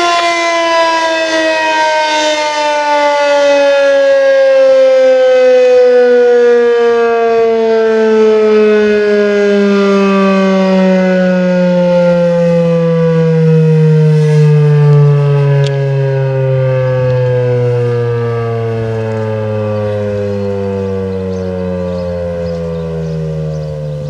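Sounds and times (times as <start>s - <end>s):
warning siren winding down: 0.0s - 24.0s.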